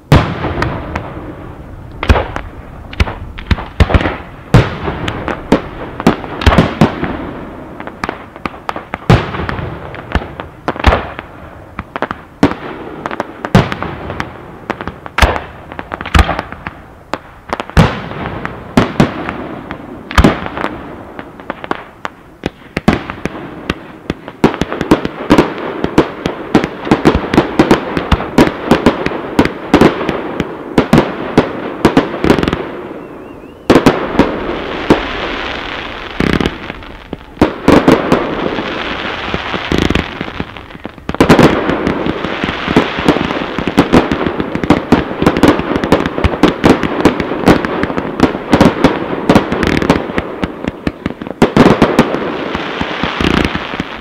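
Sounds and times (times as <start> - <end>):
fireworks bangs: 0.0 - 54.0
fireworks crackle: 0.0 - 54.0.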